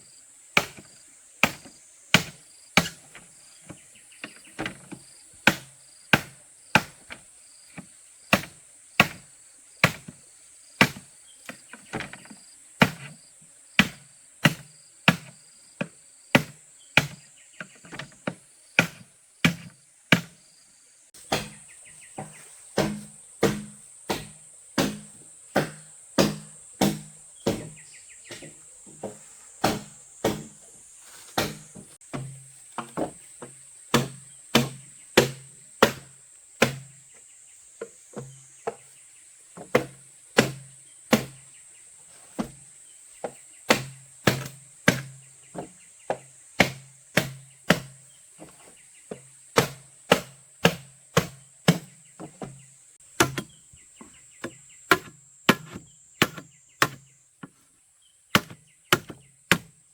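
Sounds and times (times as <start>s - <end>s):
tool striking bamboo: 0.6s - 10.2s, 10.8s - 13.2s, 13.8s - 20.4s, 21.2s - 30.7s, 31.3s - 37.0s, 39.6s - 41.5s, 43.2s - 57.6s, 58.3s - 59.8s.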